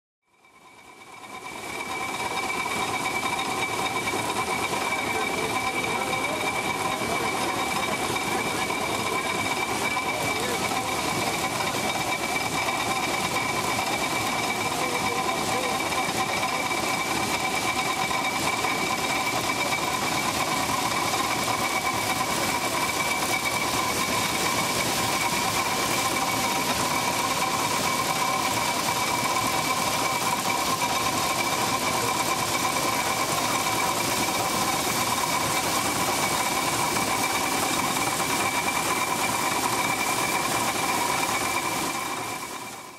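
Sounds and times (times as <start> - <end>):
high machinery whine: 0.3 - 42.9
corn sheller clattering: 1.2 - 42.9.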